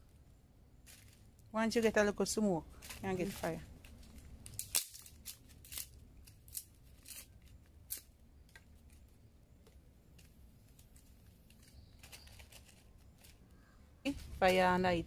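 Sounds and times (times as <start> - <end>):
wood fire crackling: 0.8 - 15.0.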